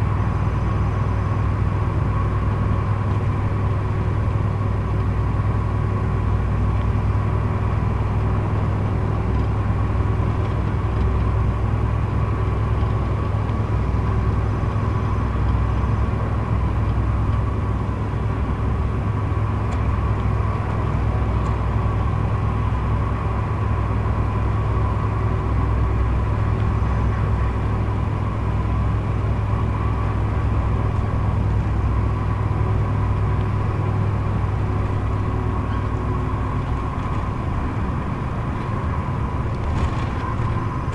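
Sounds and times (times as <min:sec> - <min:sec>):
diesel engine drone: 0:00.0 - 0:40.9
road and tyre noise: 0:00.0 - 0:40.9.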